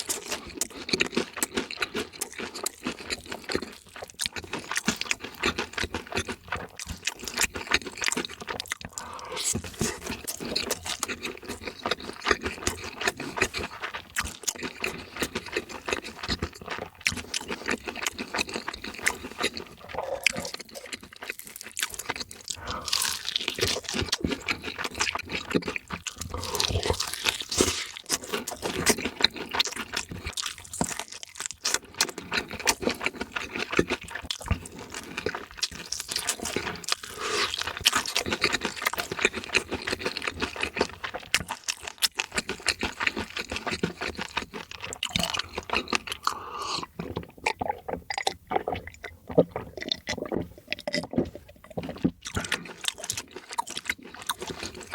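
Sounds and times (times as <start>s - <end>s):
crunching and wet chewing: 0.0s - 54.9s.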